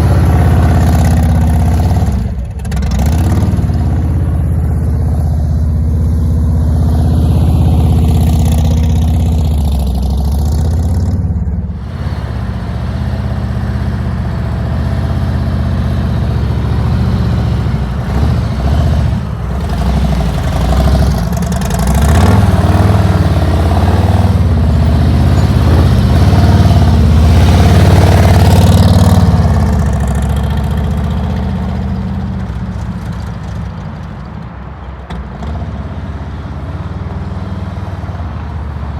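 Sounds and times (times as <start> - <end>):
motorcycle engine revving: 0.0 - 33.6.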